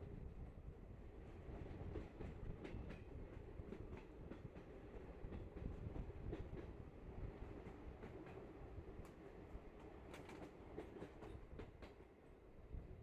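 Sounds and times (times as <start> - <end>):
train rumbling on track: 0.0 - 12.9.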